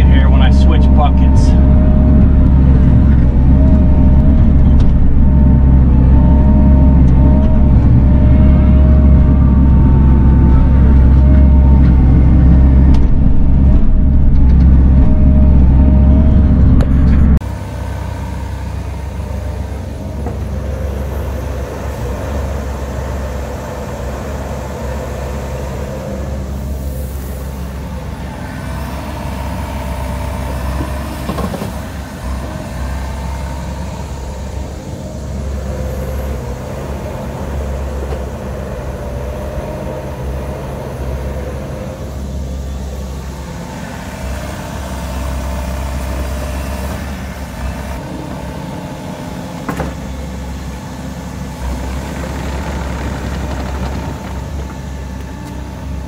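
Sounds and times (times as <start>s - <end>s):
excavator diesel engine running: 0.0s - 56.0s
thin whine: 0.0s - 56.0s.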